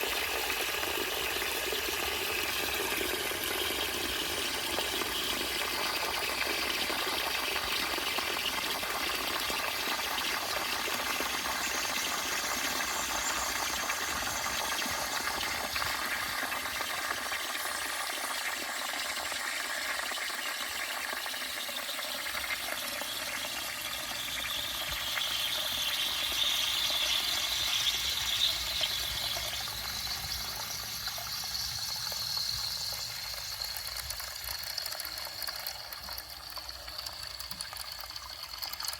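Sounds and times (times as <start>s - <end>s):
water refilling a cistern: 0.0s - 38.9s.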